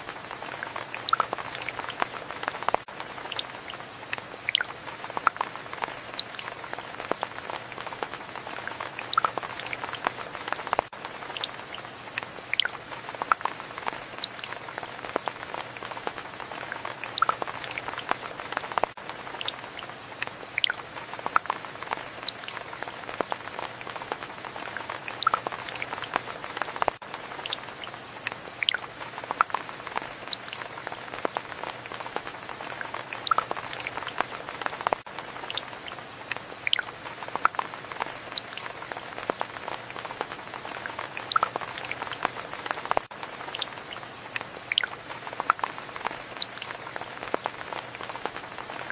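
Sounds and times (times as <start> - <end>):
rain patter: 0.0 - 48.9.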